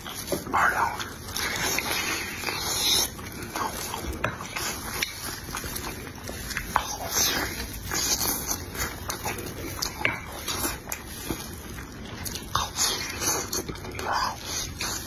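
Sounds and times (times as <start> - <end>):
man chewing wetly: 0.0 - 15.0.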